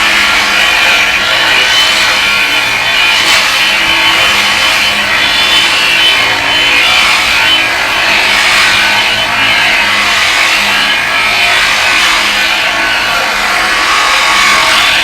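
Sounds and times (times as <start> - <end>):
angle grinder cutting pipe: 0.0 - 15.0.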